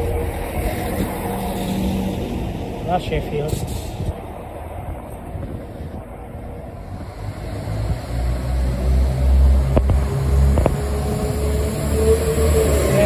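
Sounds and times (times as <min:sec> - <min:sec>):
train diesel engine rumbling: 0:00.0 - 0:13.0.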